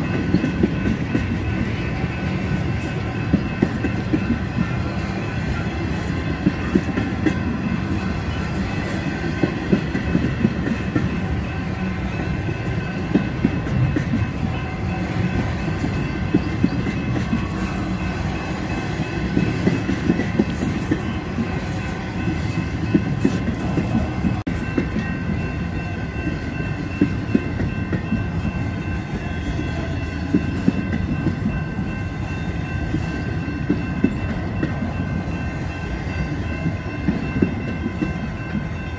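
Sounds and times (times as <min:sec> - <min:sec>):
freight train rumbling past: 0:00.0 - 0:38.9
train wheel clicks and clacks: 0:00.0 - 0:38.9.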